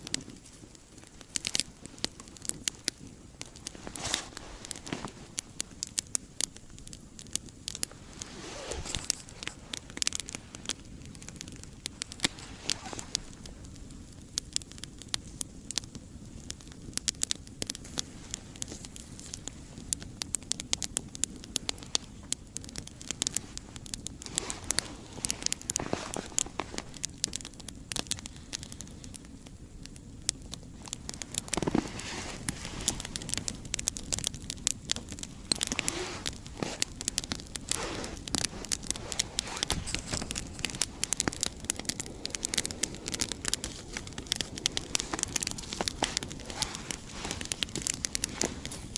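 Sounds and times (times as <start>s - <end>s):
campfire crackling: 0.0s - 48.9s.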